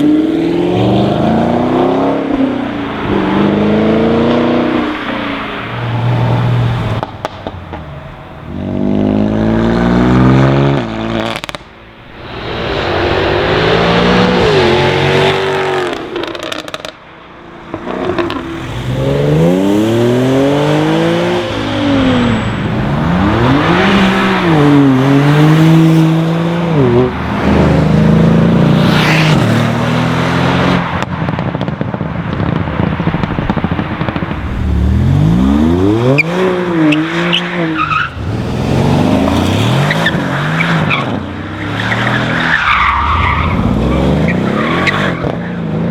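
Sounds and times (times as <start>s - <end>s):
cars accelerating hard past: 8.4s - 17.0s, 17.6s - 45.9s.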